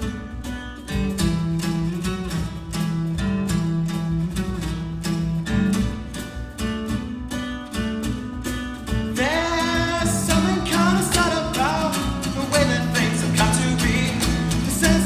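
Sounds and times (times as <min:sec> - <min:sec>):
acoustic guitar strumming rhythm: 0:00.0 - 0:15.0.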